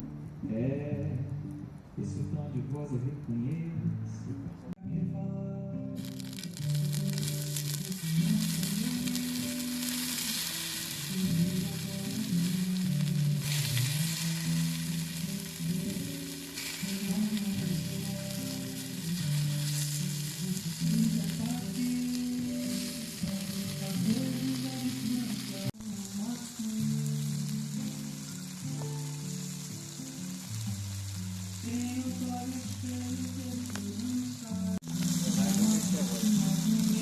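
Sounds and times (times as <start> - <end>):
background music with bass: 0.0 - 37.0
meat sizzling in a pan: 6.0 - 37.0.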